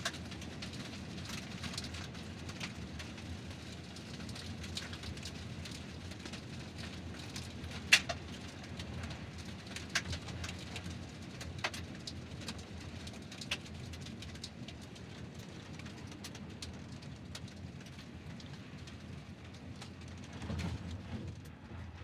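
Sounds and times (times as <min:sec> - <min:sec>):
car tyres rolling over gravel: 0:00.0 - 0:22.0.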